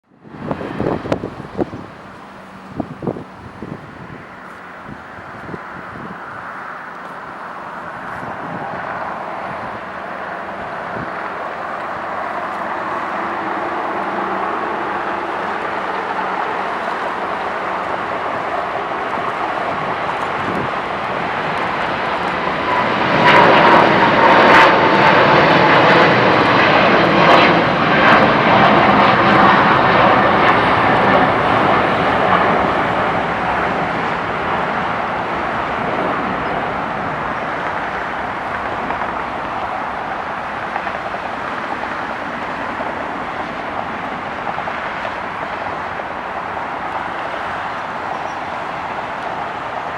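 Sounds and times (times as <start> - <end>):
jet engines at takeoff: 0.0 - 49.9
falling jet whine: 0.2 - 49.9.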